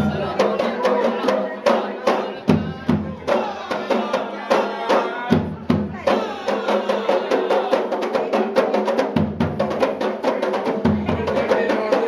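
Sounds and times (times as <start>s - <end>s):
frame drums slapped in rhythm: 0.0s - 12.0s.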